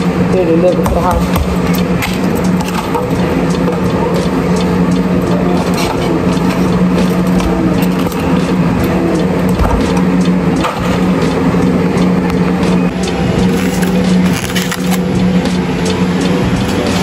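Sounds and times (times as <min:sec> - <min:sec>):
mechanical hum of motor: 0:00.0 - 0:17.0.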